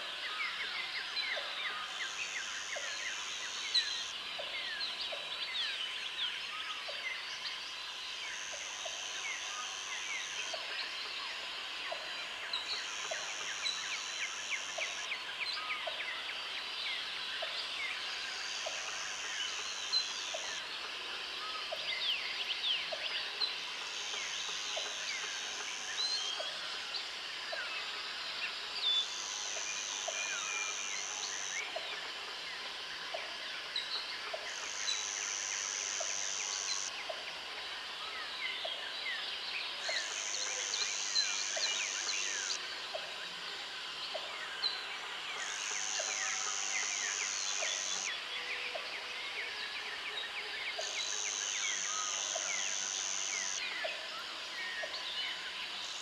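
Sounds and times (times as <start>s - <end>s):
insects trilling: 0.2s - 56.0s.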